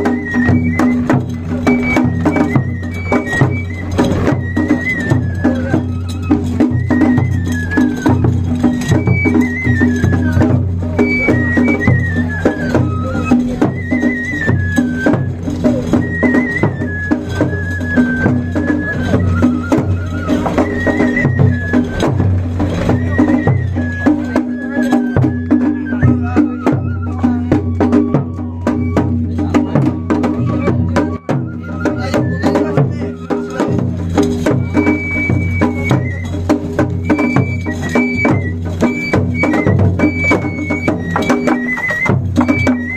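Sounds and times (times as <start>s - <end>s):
high flute melody: 0.0s - 42.9s
taiko drum strokes: 0.0s - 42.9s.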